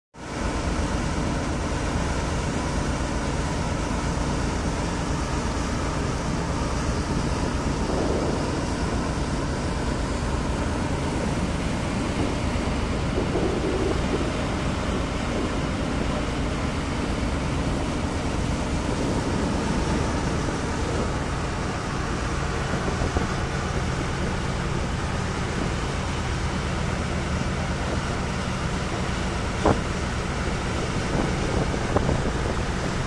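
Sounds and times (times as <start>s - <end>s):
ferry engine drone: 0.2s - 33.0s
rushing water: 0.2s - 33.0s
rushing wind: 0.3s - 33.0s.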